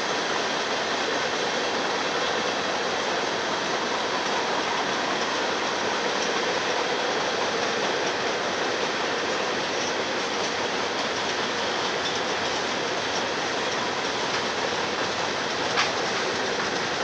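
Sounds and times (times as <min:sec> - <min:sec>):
freight train wheels on rail: 0:00.0 - 0:17.0.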